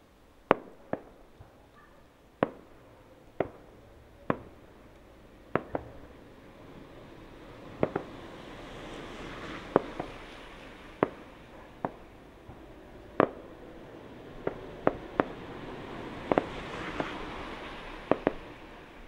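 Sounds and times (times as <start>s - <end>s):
faint background hiss: 0.0s - 19.0s
fireworks bangs: 0.4s - 1.8s, 2.4s - 19.0s.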